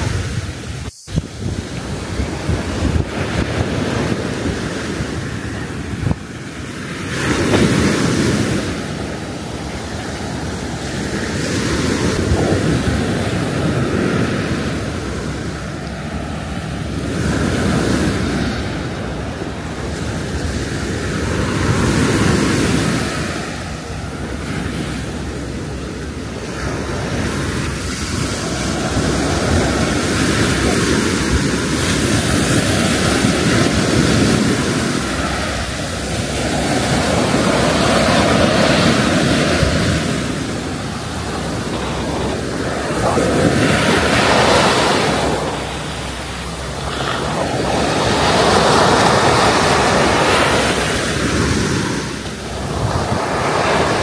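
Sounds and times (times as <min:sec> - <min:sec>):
sea surf breaking: 0:00.0 - 0:54.0.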